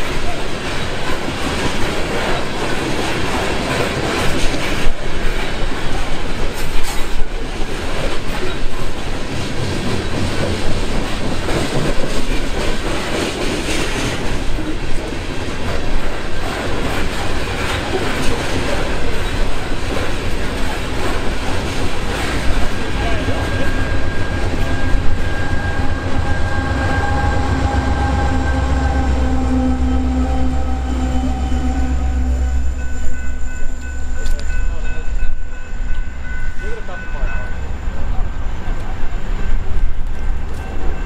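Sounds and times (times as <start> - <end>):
steel wheels on rail: 0.0 - 41.0.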